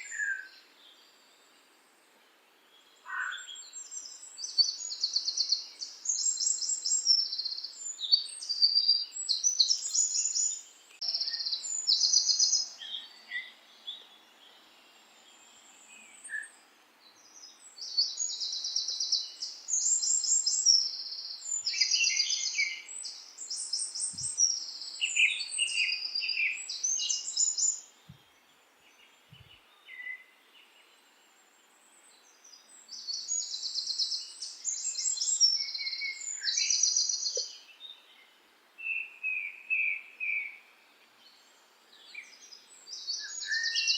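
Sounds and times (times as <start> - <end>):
songbirds singing trilled phrases: 0.0 - 1.5, 2.7 - 43.9
faint steady background hiss: 0.0 - 43.9.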